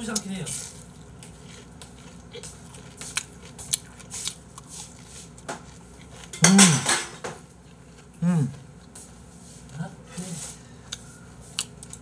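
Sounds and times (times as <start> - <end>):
chewing crispy fried food: 0.0 - 6.7, 7.4 - 12.0.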